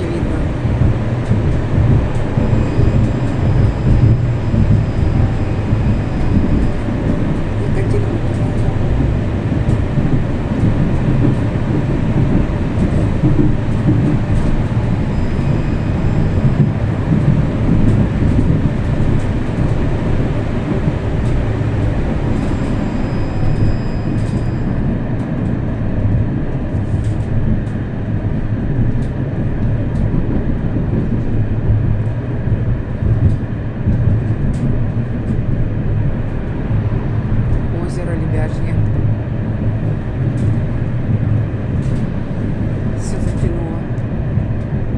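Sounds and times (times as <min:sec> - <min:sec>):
tram rumbling on rails: 0:00.0 - 0:44.9.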